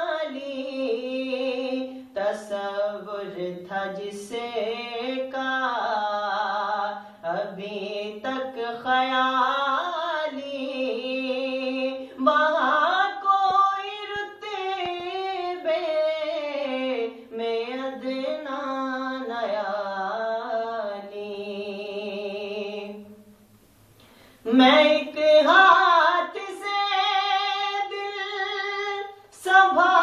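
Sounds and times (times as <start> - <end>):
man singing unaccompanied: 0.0 - 23.2, 24.4 - 30.0.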